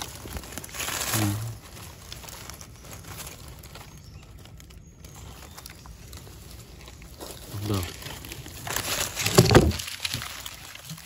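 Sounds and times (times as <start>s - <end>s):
dry leaves rustling: 0.0s - 11.0s
small handling ticks: 0.0s - 11.0s.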